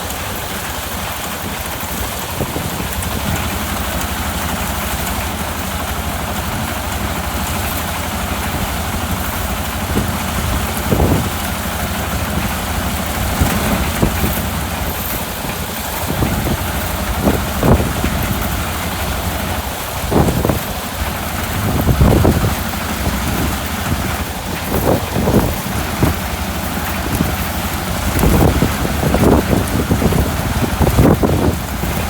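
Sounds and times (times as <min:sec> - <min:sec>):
constant hiss: 0:00.0 - 0:32.0
harvester engine running: 0:00.0 - 0:32.0.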